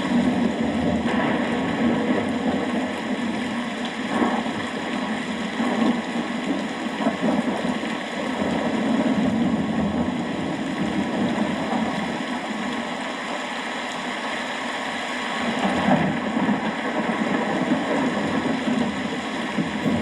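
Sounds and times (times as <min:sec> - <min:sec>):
thunder rumbling: 0:00.0 - 0:12.0, 0:15.8 - 0:20.0
steady rain: 0:00.0 - 0:20.0.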